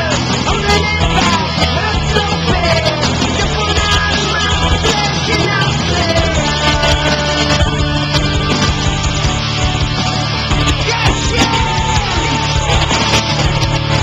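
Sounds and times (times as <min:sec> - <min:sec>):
rock music with singing: 0:00.0 - 0:14.0.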